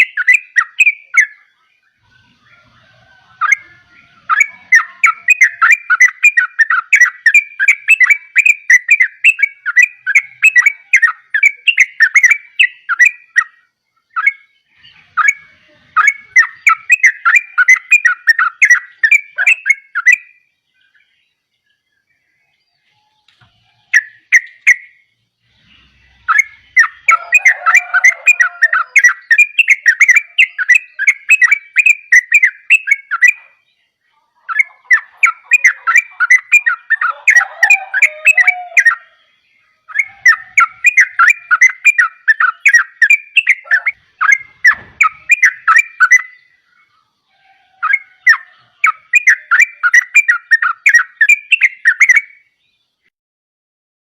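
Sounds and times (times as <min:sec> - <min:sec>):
bird chirping song: 0:00.0 - 0:53.1.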